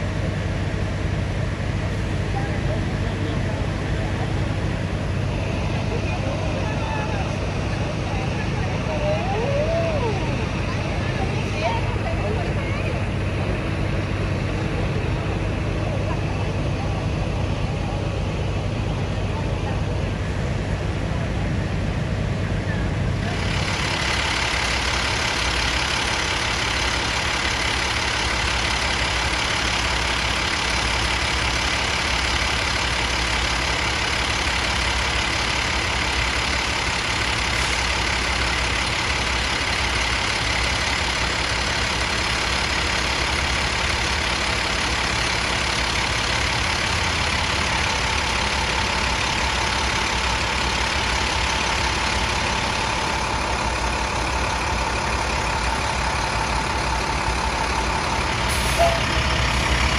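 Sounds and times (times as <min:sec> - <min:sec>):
diesel truck engines idling: 0:00.0 - 0:59.9.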